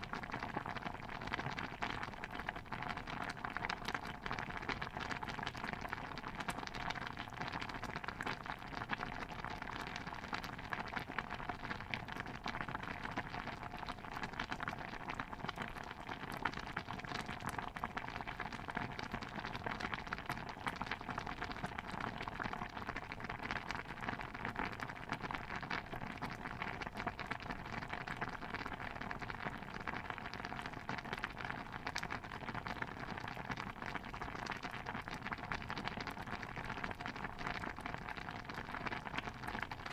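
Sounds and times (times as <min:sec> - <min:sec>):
stew bubbling in a pot: 0:00.0 - 0:39.9.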